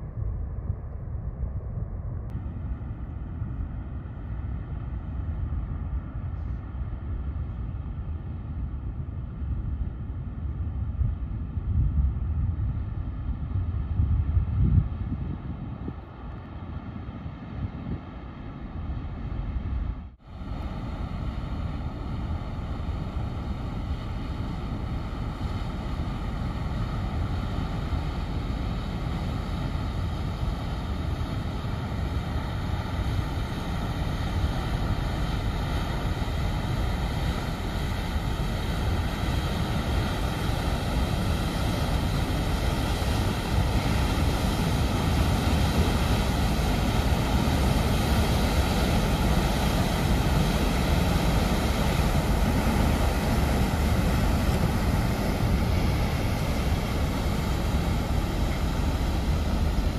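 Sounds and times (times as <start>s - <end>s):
ship engine hum: 0.0s - 59.9s
wind on microphone: 0.0s - 59.9s.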